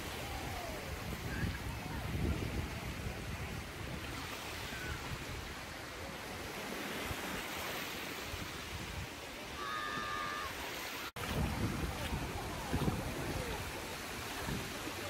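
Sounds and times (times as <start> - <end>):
waves lapping on sandy shore: 0.0 - 15.0.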